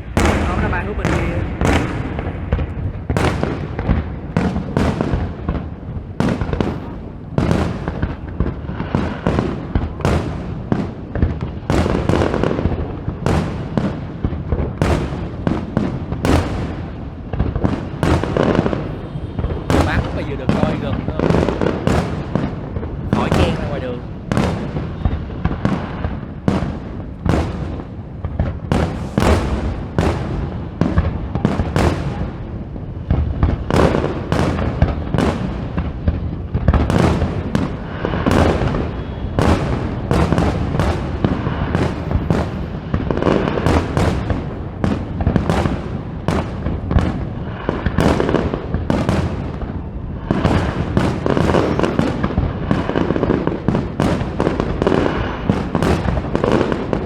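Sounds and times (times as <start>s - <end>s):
fireworks bangs and booms: 0.0s - 57.0s.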